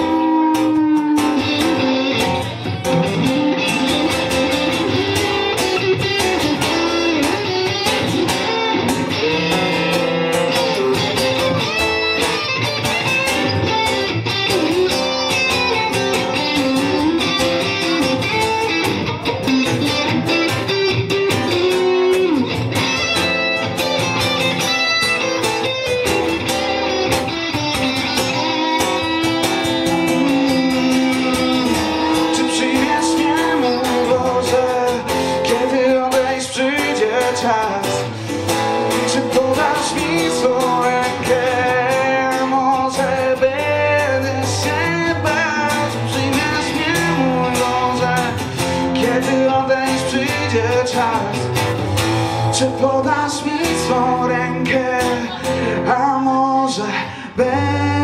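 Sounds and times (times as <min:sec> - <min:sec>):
electric guitar: 0:00.0 - 0:58.0
strummed acoustic guitar: 0:00.0 - 0:58.0.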